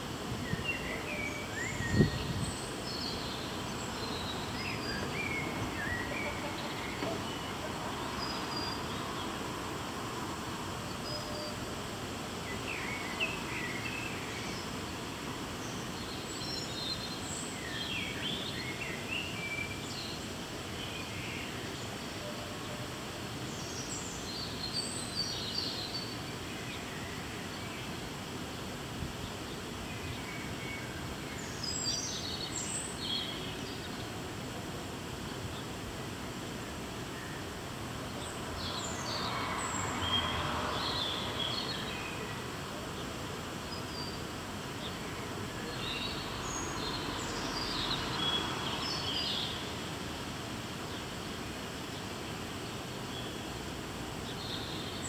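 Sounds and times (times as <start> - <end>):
outdoor background noise: 0.0 - 55.0.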